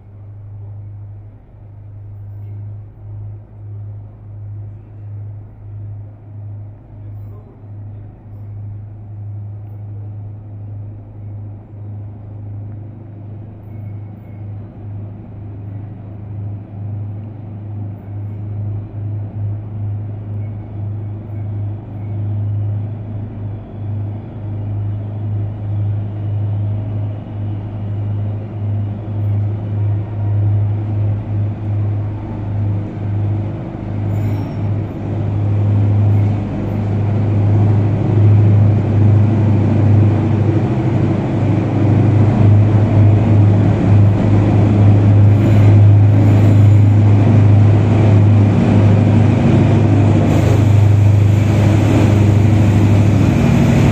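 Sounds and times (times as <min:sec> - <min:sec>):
locomotive hum and rumble: 0:00.0 - 0:53.9.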